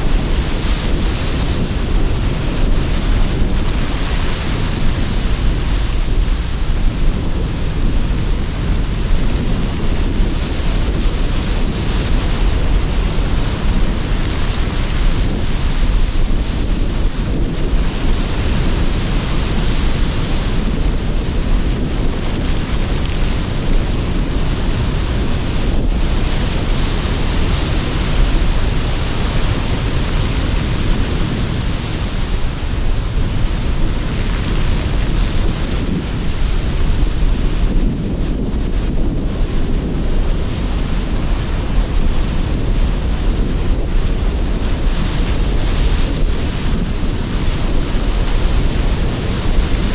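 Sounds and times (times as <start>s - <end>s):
sea surf: 0.0s - 49.9s
strong wind blowing: 0.0s - 49.9s.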